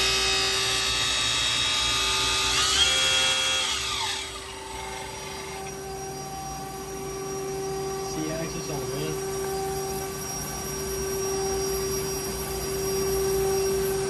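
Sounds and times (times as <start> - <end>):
lathe spindle whine: 0.0 - 14.0
machine drives and pumps humming: 0.0 - 14.0.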